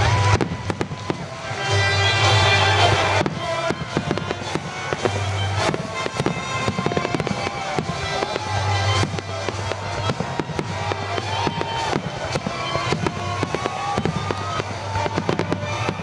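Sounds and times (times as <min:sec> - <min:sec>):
firework shells bursting: 0:00.0 - 0:16.0
music playing: 0:00.0 - 0:16.0.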